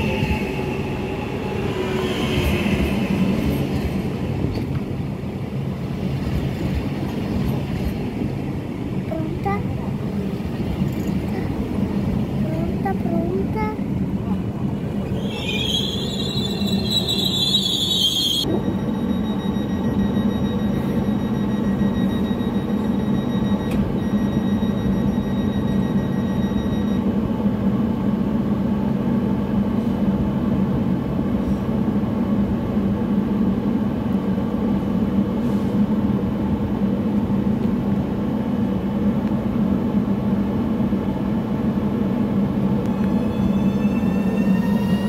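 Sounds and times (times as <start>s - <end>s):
electric train equipment hum: 0.0s - 45.0s
rising whine of train pulling away: 0.0s - 45.0s.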